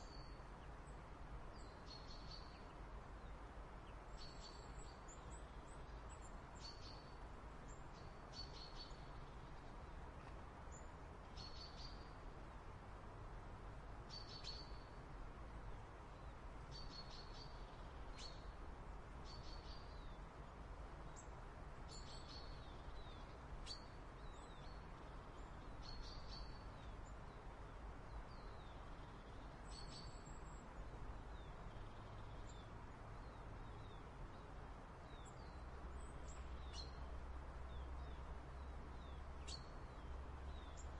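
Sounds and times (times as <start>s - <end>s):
small birds chirping: 1.5s - 12.2s, 14.0s - 15.0s, 16.2s - 18.6s, 19.2s - 40.9s.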